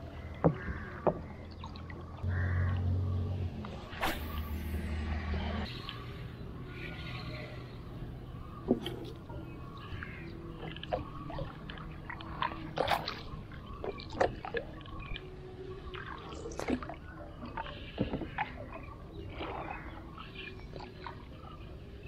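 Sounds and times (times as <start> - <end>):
water splashes: 0.0 - 7.6, 8.7 - 22.0
water sloshing and dripping: 0.0 - 7.7, 8.4 - 22.0.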